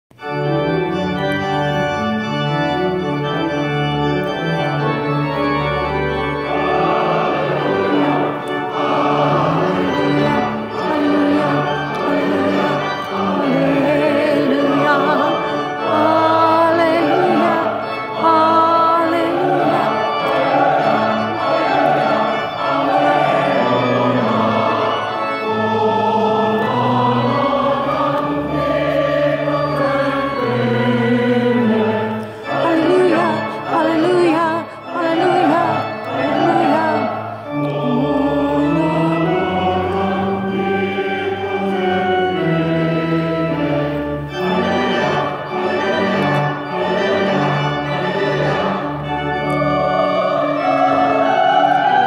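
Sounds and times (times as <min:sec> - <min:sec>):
church organ playing: 0:00.1 - 0:52.0
choir singing: 0:00.6 - 0:52.0.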